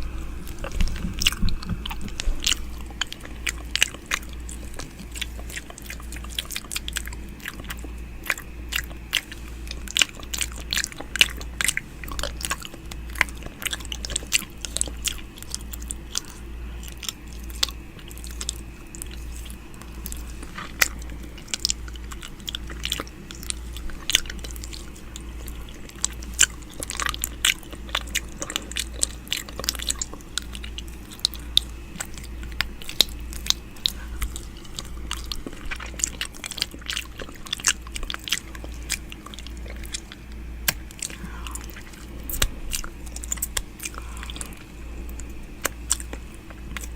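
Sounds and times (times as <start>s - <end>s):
faint low hum: 0.0s - 46.9s
wet mouth clicks: 0.5s - 46.9s.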